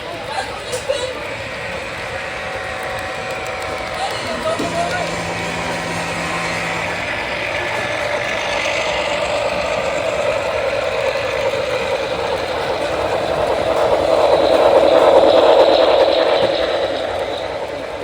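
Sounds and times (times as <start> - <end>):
model train running hum: 0.0 - 18.0.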